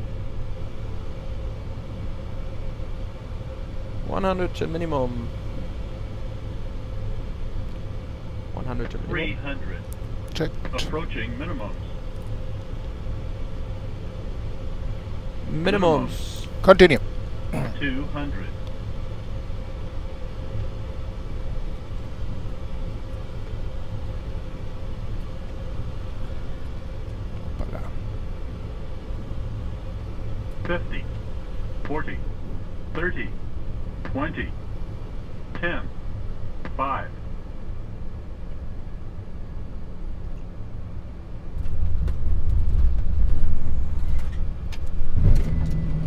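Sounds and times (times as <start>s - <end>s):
airflow and jet engine rumble: 0.0s - 46.0s
faint steady hum: 0.0s - 46.0s.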